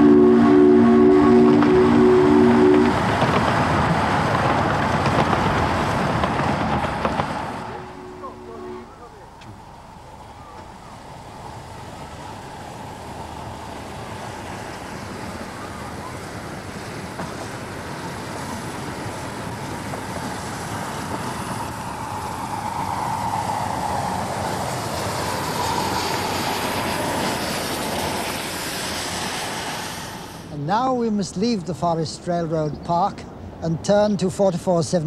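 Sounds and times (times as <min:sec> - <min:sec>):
miniature steam locomotive: 0:00.0 - 0:30.6.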